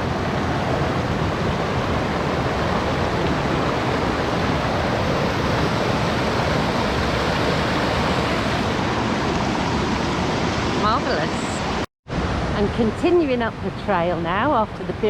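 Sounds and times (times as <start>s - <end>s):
river water rushing: 0.0s - 12.6s.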